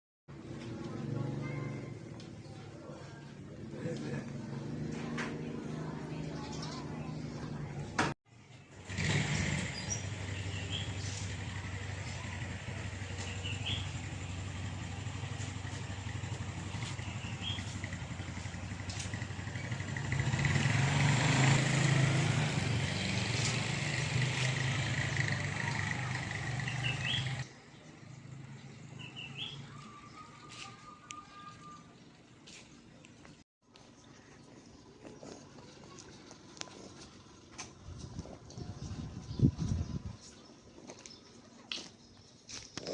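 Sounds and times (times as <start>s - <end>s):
vehicle engine running: 0.3s - 41.5s
yard ambience: 0.3s - 42.9s.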